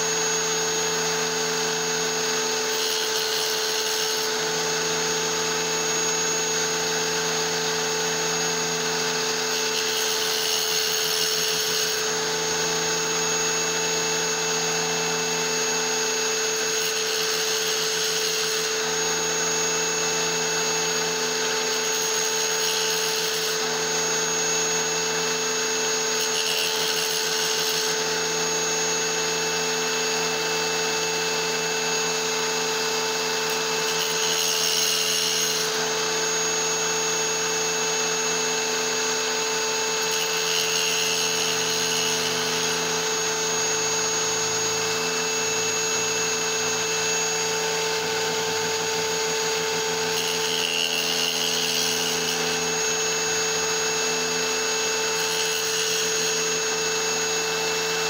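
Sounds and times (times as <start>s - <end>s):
blade grinding stone: 0.0s - 58.0s
tile saw whining: 0.0s - 58.0s.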